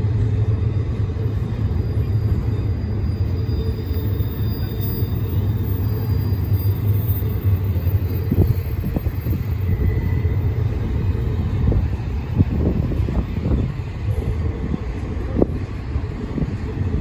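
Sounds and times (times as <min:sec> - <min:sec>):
freight wheels rumbling on track: 0:00.0 - 0:17.0.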